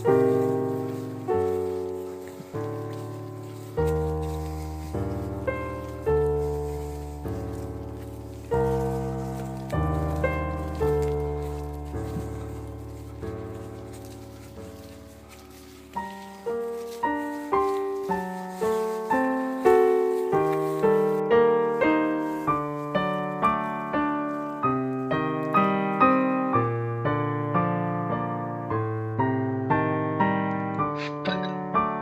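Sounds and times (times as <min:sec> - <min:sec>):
solo piano music: 0:00.0 - 0:32.0.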